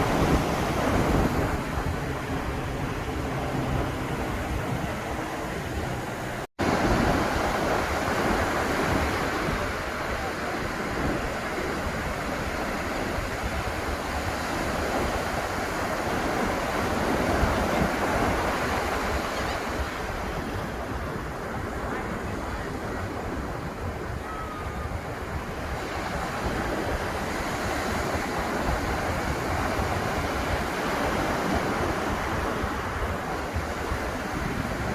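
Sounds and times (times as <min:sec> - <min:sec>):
ocean surf washing onto beach: 0:00.0 - 0:34.9.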